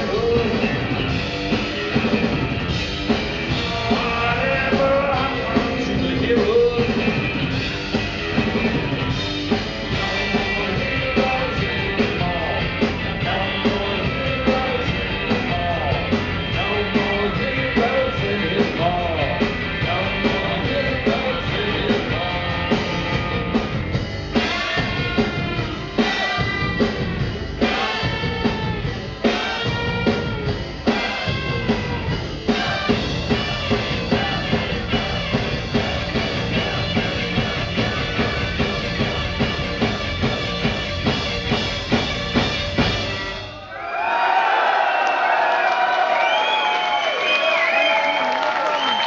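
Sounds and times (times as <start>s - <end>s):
punk rock band playing: 0.0s - 43.7s.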